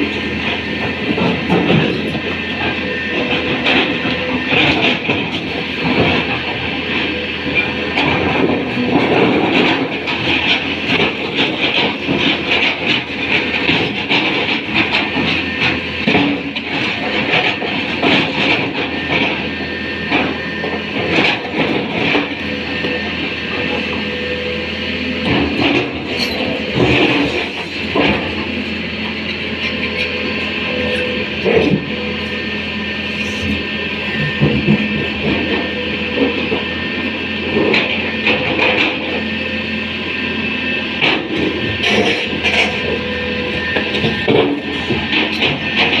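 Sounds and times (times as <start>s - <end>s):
excavator engine drone: 0.0s - 46.0s.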